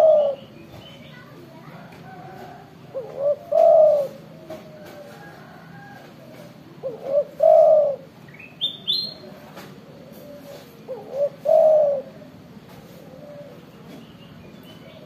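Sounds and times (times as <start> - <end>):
dove cooing: 0.0 - 0.6, 1.7 - 14.0.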